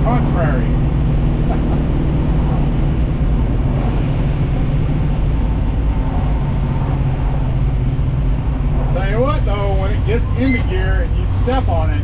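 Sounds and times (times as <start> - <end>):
car engine exhaust drone: 0.0 - 12.0.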